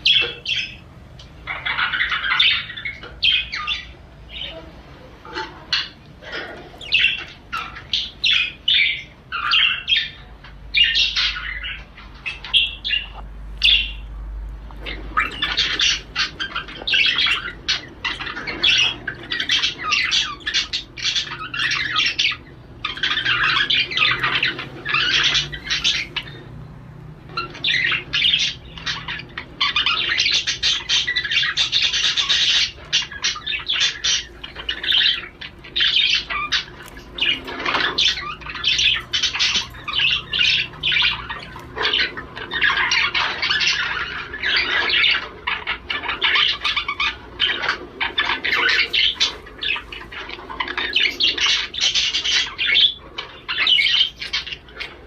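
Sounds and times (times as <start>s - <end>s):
budgerigar warbling and chattering: 0.0s - 26.6s, 27.2s - 55.0s.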